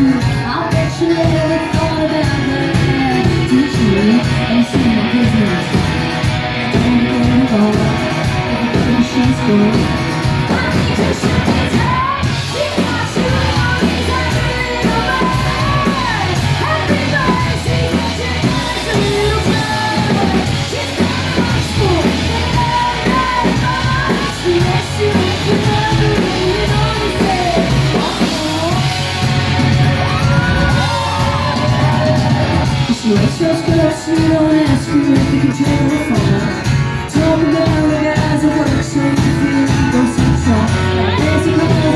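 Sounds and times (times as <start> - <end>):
woman singing: 0.0 - 6.0, 6.6 - 29.2, 30.1 - 41.9
live rock band: 0.0 - 41.9.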